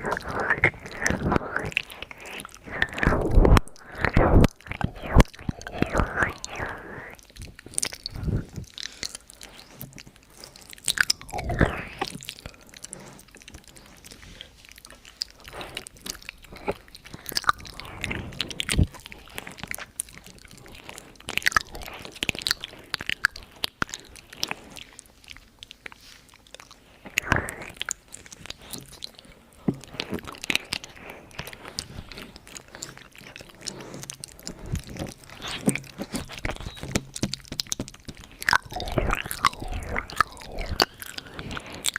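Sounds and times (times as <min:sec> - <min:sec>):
lip and tongue clicks: 0:00.0 - 0:41.9.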